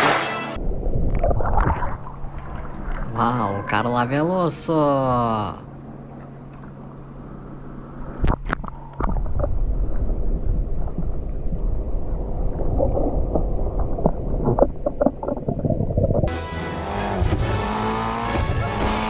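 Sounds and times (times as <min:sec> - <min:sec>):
water churning and gurgling: 0:00.0 - 0:16.3
faint low hum: 0:00.6 - 0:16.3.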